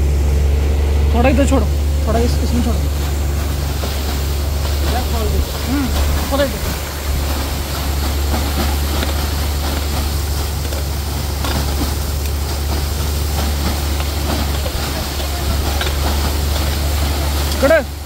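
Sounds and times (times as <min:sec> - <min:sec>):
compressed air and water hissing: 0:00.0 - 0:18.0
drilling rig deep hum: 0:00.0 - 0:18.0.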